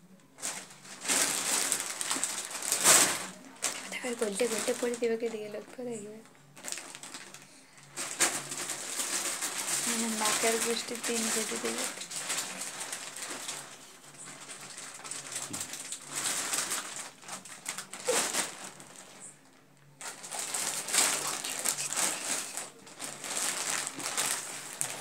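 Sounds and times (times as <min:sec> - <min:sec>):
plastic wrapping crinkling: 0:00.1 - 0:25.0.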